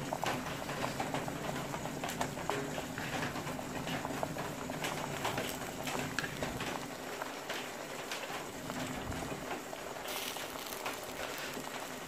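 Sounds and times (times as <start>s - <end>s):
water boiling: 0.0s - 12.0s.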